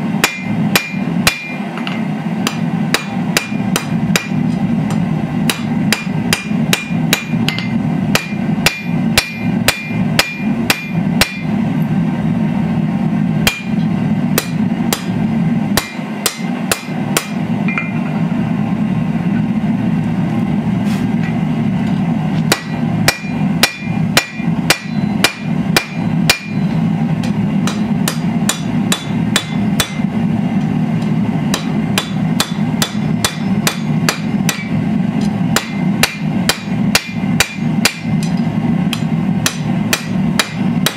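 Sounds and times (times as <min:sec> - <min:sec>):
low hum: 0:00.0 - 0:40.9
hammer striking steel on anvil: 0:00.2 - 0:11.6, 0:13.4 - 0:18.2, 0:21.2 - 0:40.9.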